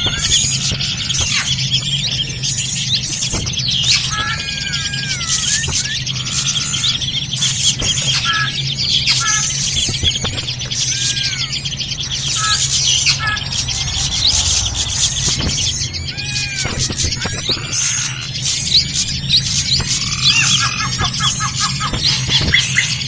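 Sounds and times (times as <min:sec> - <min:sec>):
bird chattering and whistling: 0:00.0 - 0:23.0
steady low hum: 0:00.0 - 0:23.0.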